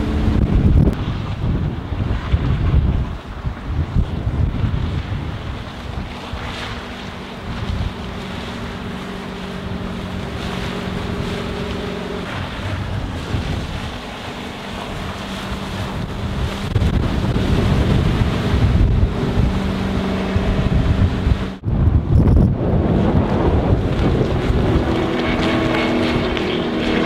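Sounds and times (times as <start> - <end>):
boat engine drone: 0.0 - 27.0
wind noise on microphone: 0.0 - 27.0.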